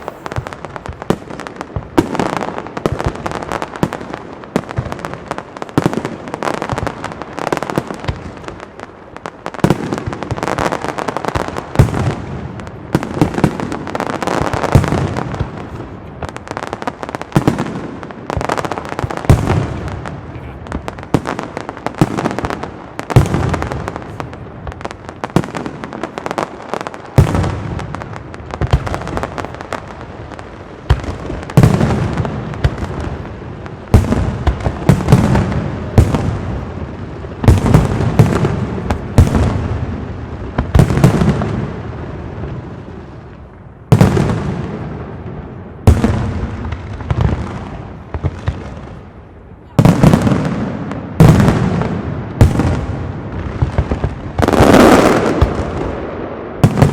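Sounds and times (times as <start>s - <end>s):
firework crackle: 0.0s - 56.9s.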